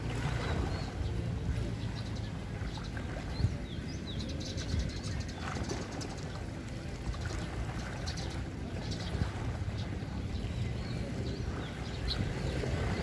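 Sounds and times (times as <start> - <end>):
small birds chirping: 0.5 - 13.0.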